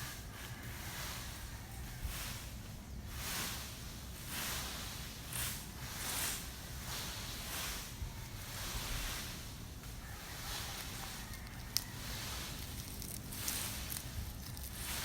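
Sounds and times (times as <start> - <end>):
rustling swishes: 0.0 - 15.0.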